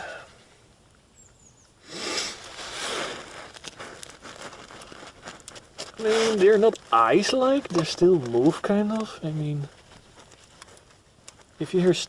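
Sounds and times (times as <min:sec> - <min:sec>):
hands handling hoses rustling: 0:02.3 - 0:12.0.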